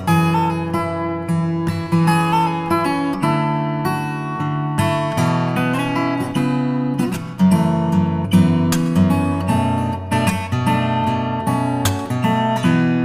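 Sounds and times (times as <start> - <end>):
acoustic guitar playing chords: 0.0 - 13.0.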